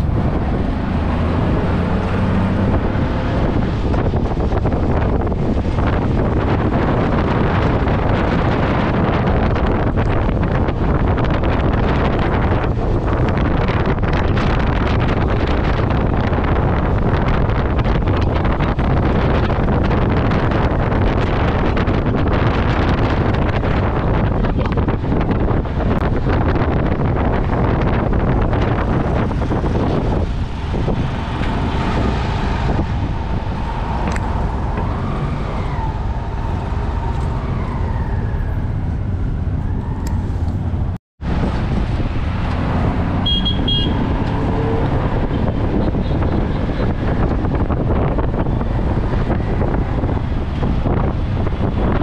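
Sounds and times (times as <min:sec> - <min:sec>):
road noise from moving vehicle: 0:00.0 - 0:52.0
wind rushing over microphone: 0:00.0 - 0:52.0.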